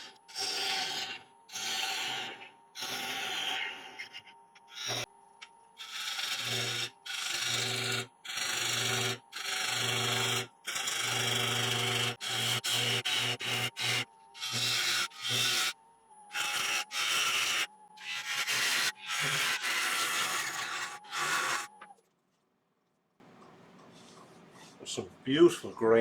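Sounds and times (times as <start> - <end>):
lathe tool cutting wood bowl: 0.0 - 5.1, 5.8 - 21.8.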